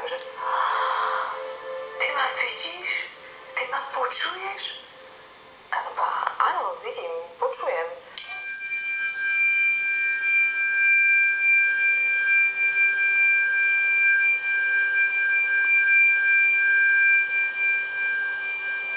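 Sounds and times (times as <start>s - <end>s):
tuning fork ringing: 0.0s - 5.7s, 8.2s - 18.9s.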